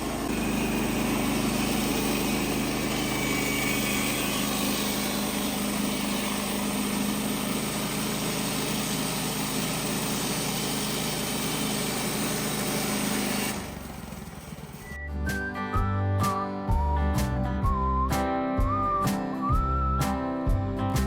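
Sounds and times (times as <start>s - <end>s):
sawmill gasoline engine running: 0.0s - 21.0s.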